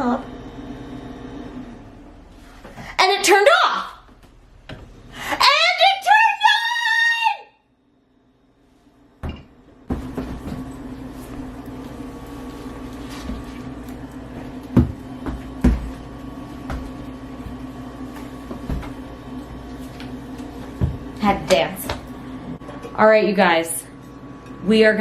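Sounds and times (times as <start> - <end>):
refrigerator compressor humming: 0.0 - 25.0.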